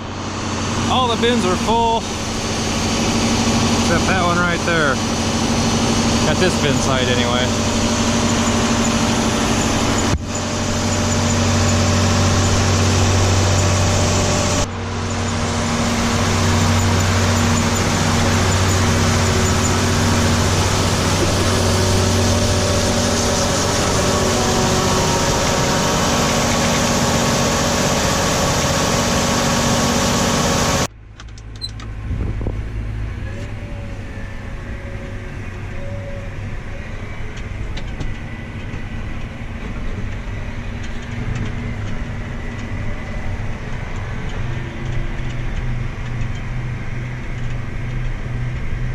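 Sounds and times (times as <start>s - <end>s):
engine-driven machinery humming: 0.0s - 48.9s.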